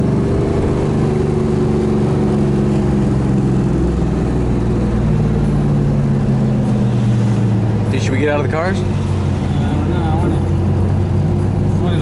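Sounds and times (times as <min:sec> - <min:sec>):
car engine deep drone: 0:00.0 - 0:12.0.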